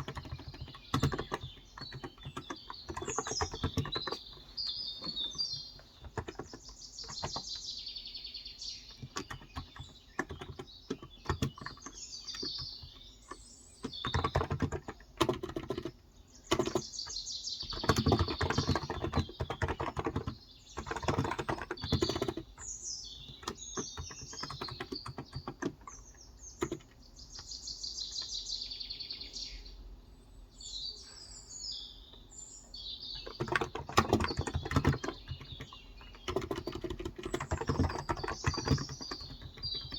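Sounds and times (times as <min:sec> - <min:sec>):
keyboard typing: 0:00.0 - 0:07.7, 0:08.9 - 0:27.5, 0:33.2 - 0:39.9
birds chirping: 0:00.0 - 0:39.9.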